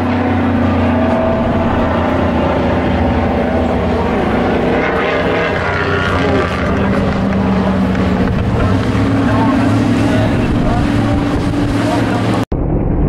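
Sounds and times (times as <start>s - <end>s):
race truck engines passing: 0.0s - 12.5s.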